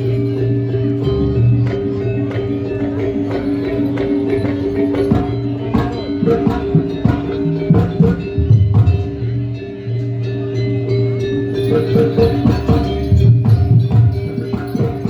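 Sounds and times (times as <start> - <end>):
drums and percussion: 0.0 - 15.0
sustained tones: 0.0 - 15.0.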